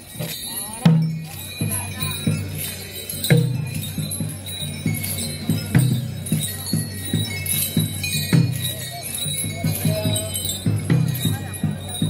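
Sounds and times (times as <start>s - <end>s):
metallic jingling: 0.0s - 12.0s.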